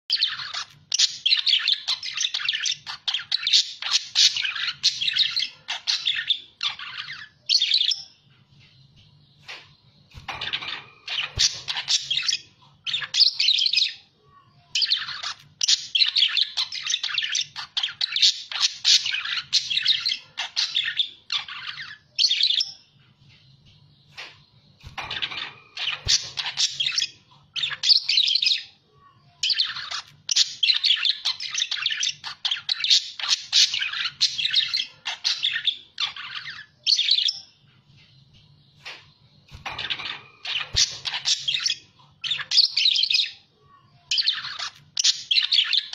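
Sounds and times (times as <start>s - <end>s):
budgerigars chattering and warbling: 0.2s - 8.1s, 9.4s - 14.0s, 14.8s - 22.8s, 24.1s - 28.8s, 29.4s - 37.5s, 38.8s - 43.4s, 44.1s - 45.9s.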